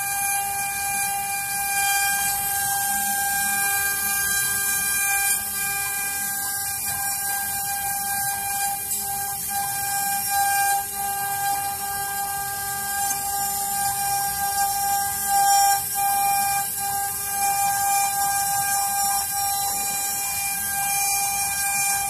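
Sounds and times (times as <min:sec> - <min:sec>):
router spindle whine: 0:00.0 - 0:22.0.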